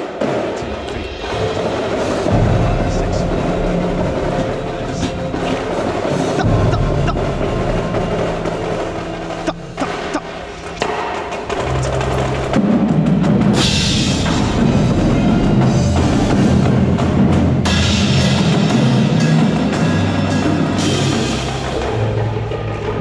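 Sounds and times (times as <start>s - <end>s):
marching percussion ensemble: 0.0s - 23.0s.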